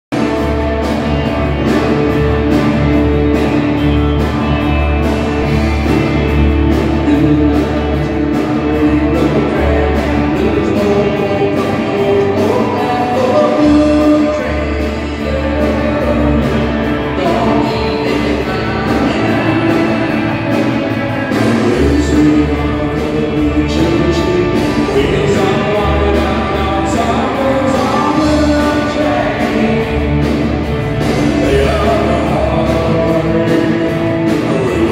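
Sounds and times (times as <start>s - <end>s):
bass guitar: 0.0s - 34.9s
acoustic and electric guitars: 0.1s - 34.9s
drum kit beat: 0.1s - 34.9s
person singing: 1.3s - 34.9s.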